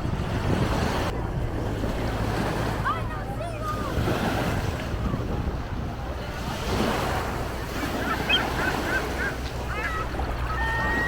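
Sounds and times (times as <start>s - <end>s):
ocean surf washing: 0.0s - 11.0s
wind on microphone: 0.0s - 11.0s.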